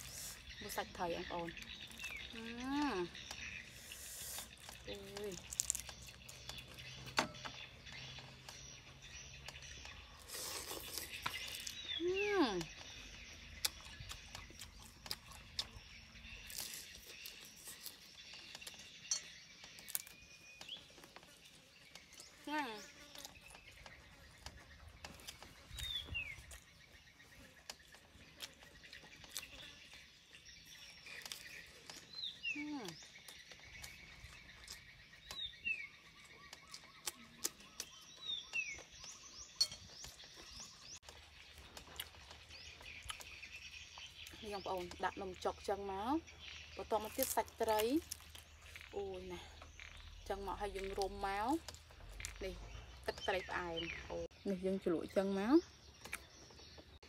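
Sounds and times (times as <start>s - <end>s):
high chorus of birds or insects: 0.0s - 57.0s
chewing: 3.0s - 12.0s, 12.6s - 45.4s, 46.2s - 53.1s.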